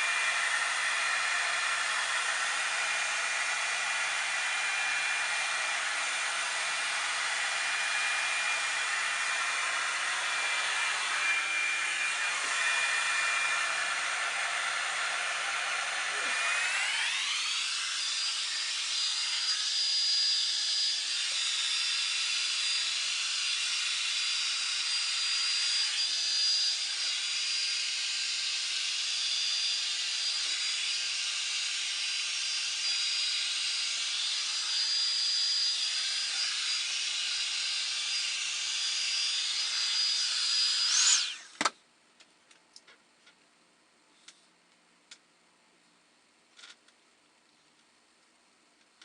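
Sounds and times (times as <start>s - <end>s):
hair dryer blowing and whining: 0.0s - 41.7s.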